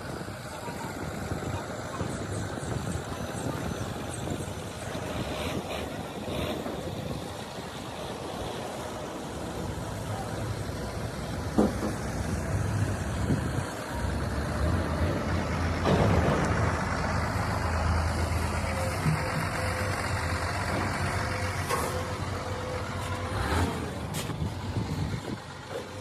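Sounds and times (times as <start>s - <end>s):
truck engine rumbling: 0.0s - 26.0s.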